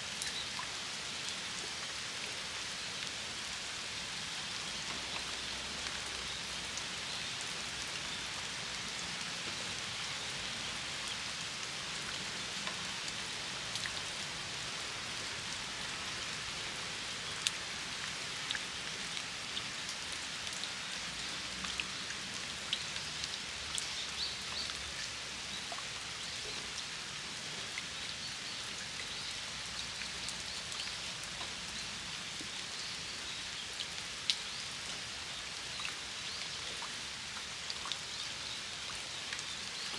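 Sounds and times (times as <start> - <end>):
rain falling on stone basin: 0.0 - 39.9.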